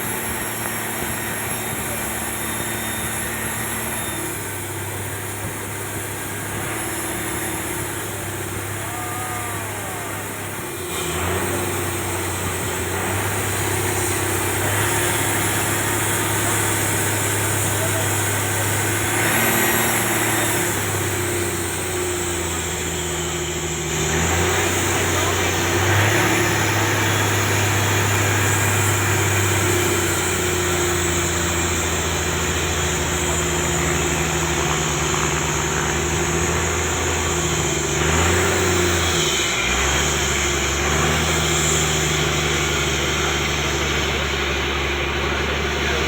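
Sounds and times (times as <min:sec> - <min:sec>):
engine humming: 0:00.0 - 0:46.0.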